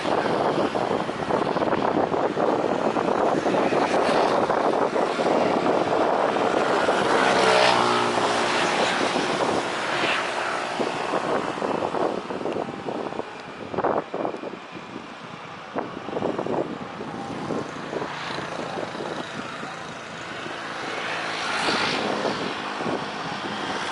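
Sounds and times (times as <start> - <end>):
jet engines passing: 0.0 - 23.9.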